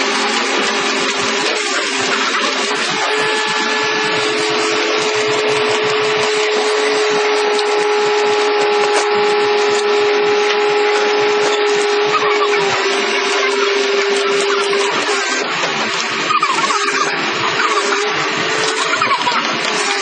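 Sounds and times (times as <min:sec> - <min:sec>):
excavator machine noise: 0:00.0 - 0:20.0
steady machine whine: 0:00.0 - 0:20.0.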